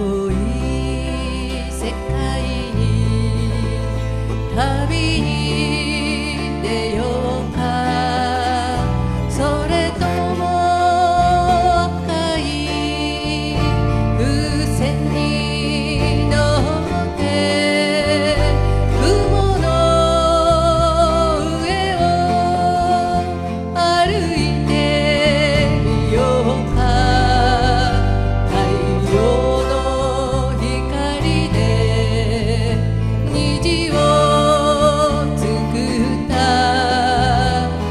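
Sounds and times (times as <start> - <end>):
bass guitar: 0.0 - 37.9
strummed acoustic guitars: 0.0 - 37.9
woman singing with vibrato: 0.0 - 37.9.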